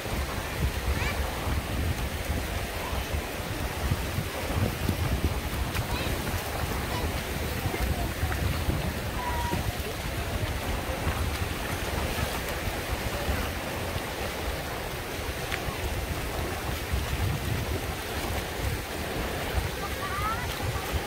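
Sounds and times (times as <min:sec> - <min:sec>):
small waves breaking on sand: 0:00.0 - 0:21.0
wind buffeting microphone: 0:00.0 - 0:21.0.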